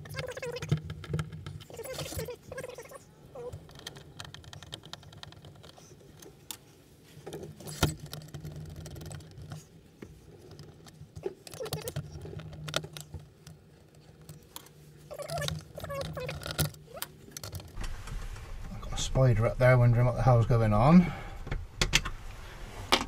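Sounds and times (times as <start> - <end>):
steady low hum: 1.7 - 23.0.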